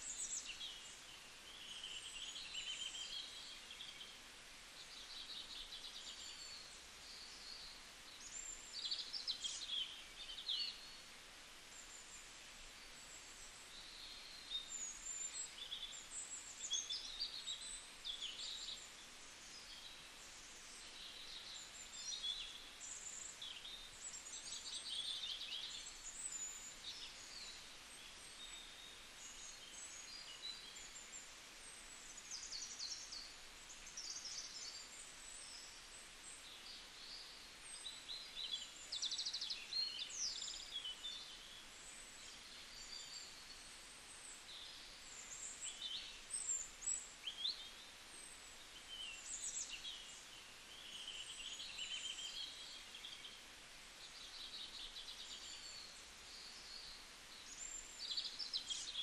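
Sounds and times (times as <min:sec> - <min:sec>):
faint steady hiss: 0:00.0 - 0:59.0
birds chirping and twittering: 0:11.7 - 0:59.0.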